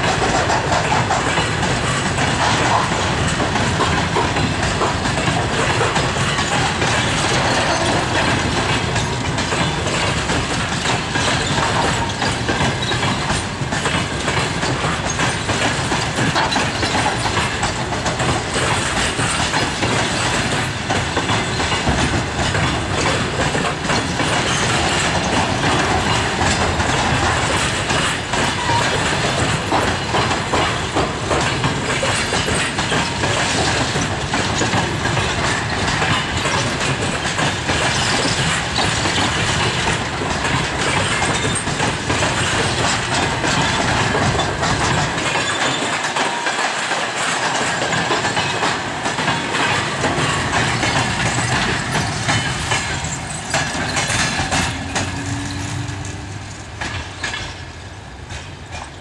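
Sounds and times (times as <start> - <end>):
train wheels clattering over joints: 0.0 - 59.0.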